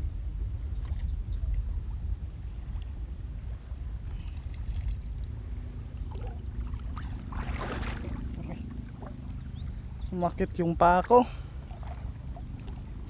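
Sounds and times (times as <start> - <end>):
wind rumbling on microphone: 0.0 - 13.0
legs wading through water: 0.7 - 13.0.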